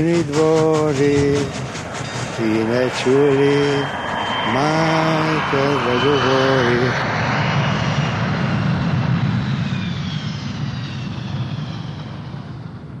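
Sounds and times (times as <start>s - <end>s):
faint high whine: 0.0s - 13.0s
noisy low rumble: 0.0s - 13.0s.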